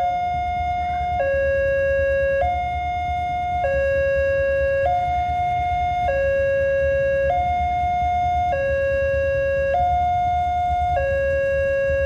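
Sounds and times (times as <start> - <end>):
level crossing two-tone alarm: 0.0 - 12.0
low steady rumble: 0.0 - 12.0.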